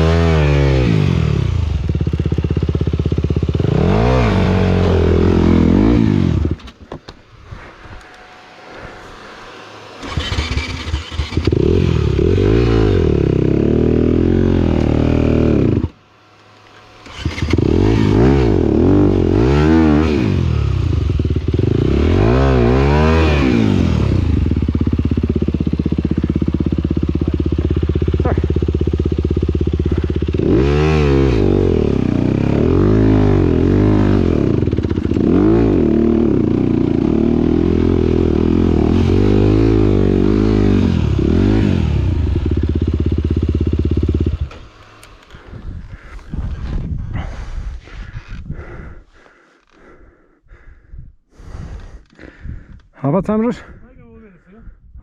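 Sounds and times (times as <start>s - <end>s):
motocross bike engine revving: 0.0s - 6.9s, 7.6s - 48.9s.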